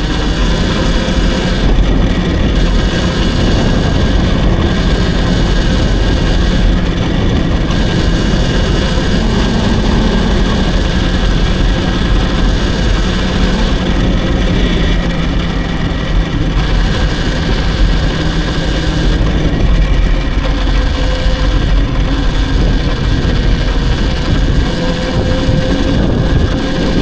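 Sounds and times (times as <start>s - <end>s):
low motor hum: 0.0s - 27.0s
wind rushing over microphone: 0.0s - 27.0s.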